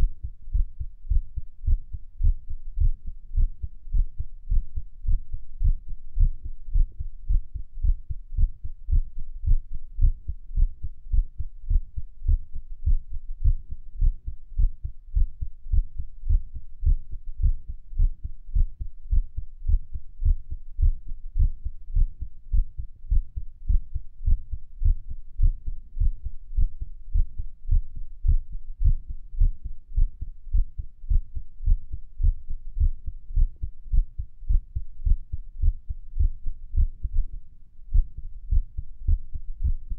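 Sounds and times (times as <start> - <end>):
heartbeat lub-dub: 0.0 - 39.9.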